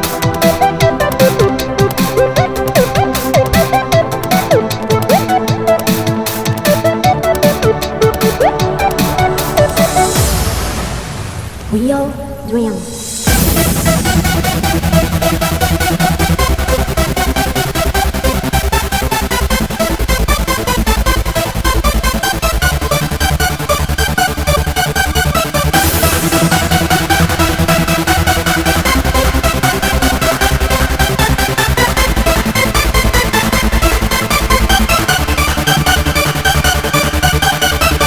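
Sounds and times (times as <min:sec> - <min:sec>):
electronic dance music: 0:00.0 - 0:38.0.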